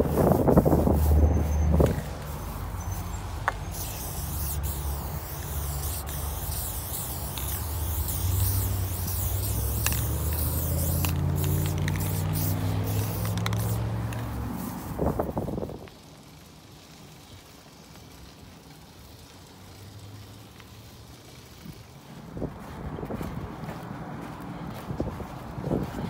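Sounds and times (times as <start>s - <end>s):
spray-paint can hissing: 0.0s - 22.0s.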